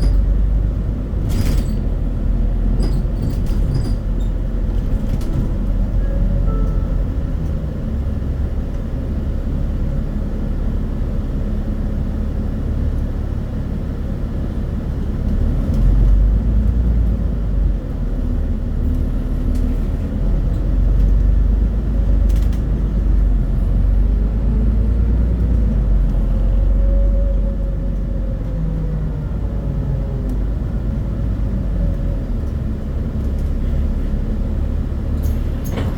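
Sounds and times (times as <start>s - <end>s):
bus diesel engine rumble: 0.0s - 35.9s.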